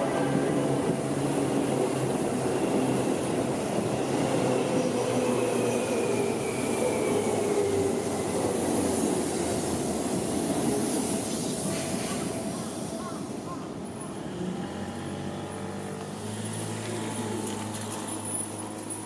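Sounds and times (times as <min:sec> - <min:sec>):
train running over rail joints: 0:00.0 - 0:19.0.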